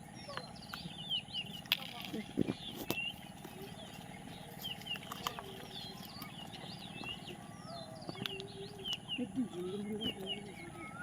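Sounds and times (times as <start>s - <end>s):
birds chirping: 0.0s - 11.0s
longer lower bird calls: 0.0s - 11.0s.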